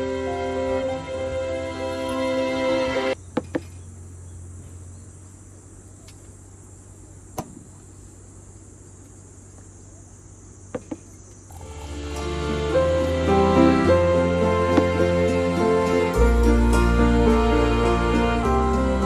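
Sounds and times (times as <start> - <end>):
low steady rumble: 0.0 - 10.7, 11.4 - 19.0
crickets chirring: 3.1 - 18.8.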